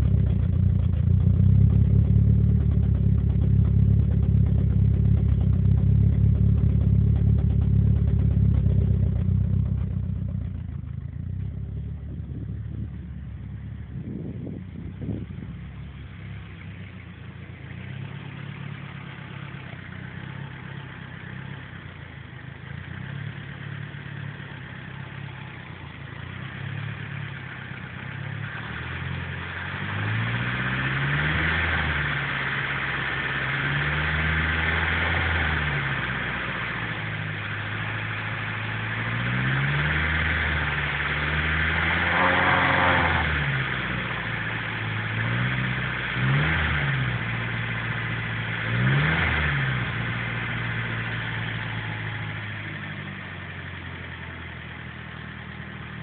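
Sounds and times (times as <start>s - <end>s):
engine idling unevenly: 0.0s - 56.0s.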